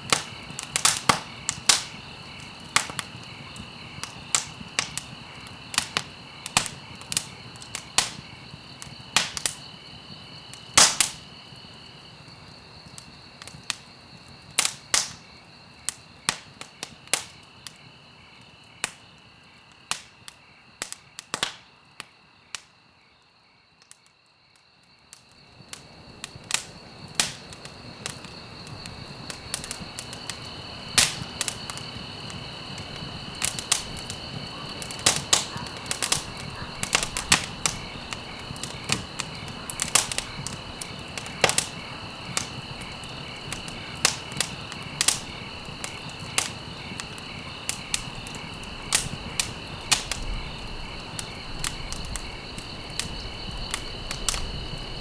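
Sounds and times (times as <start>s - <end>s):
low hiss of fire: 0.0s - 21.8s, 25.1s - 55.0s
wood fire crackling: 0.0s - 22.8s, 25.0s - 55.0s.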